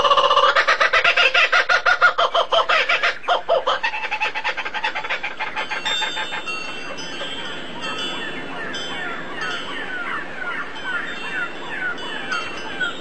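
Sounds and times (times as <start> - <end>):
fowl cackling and clucking: 0.0 - 13.0.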